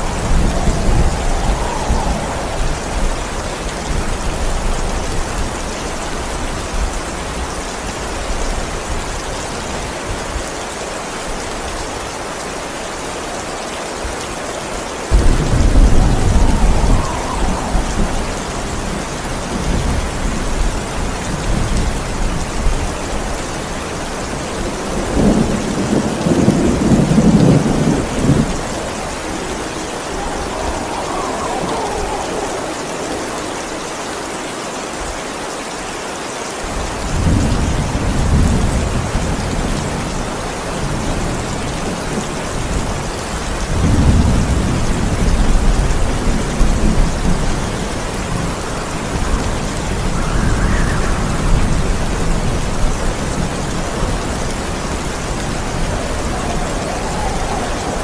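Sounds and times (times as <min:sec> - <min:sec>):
thunder crack and rumble: 0:00.0 - 0:09.9, 0:15.1 - 0:33.9, 0:36.7 - 0:58.0
steady rain: 0:00.0 - 0:58.0.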